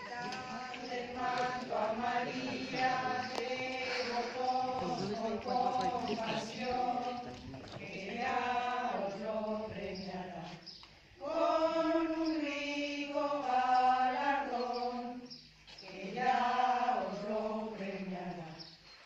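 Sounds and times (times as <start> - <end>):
group singing a hymn: 0.0 - 19.0.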